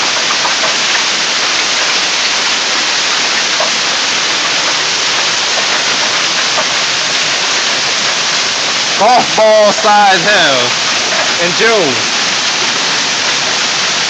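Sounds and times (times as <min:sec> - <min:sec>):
hail and rain pelting down: 0:00.0 - 0:14.0.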